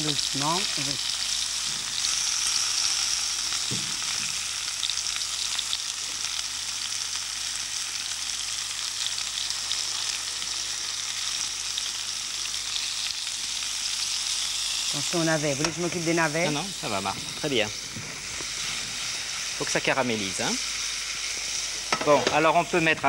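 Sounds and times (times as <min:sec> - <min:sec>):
vegetables sizzling in pans: 0:00.0 - 0:23.0.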